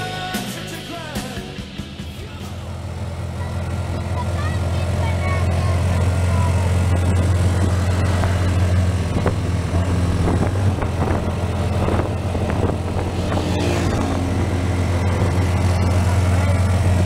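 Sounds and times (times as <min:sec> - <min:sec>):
motorcycle engine droning: 0:00.0 - 0:17.0
road and wind noise: 0:01.8 - 0:17.0.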